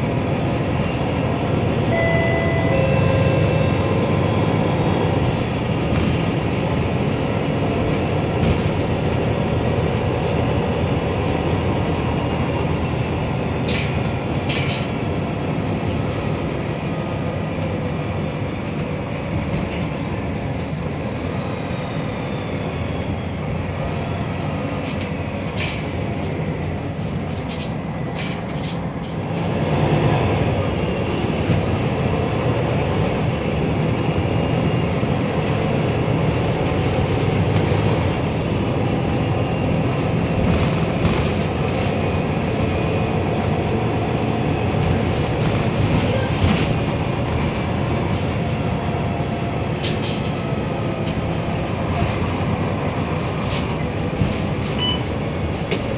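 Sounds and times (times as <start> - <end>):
bus engine and road rumble: 0.0 - 55.9
rattles and knocks from bus body: 3.4 - 55.9.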